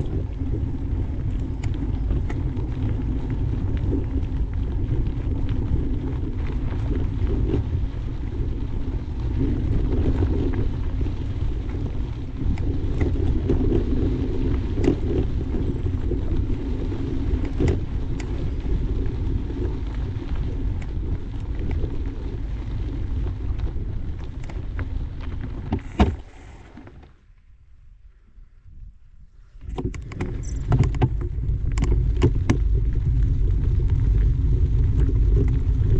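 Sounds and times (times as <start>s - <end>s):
wind and tyre rumble: 0.0s - 35.9s.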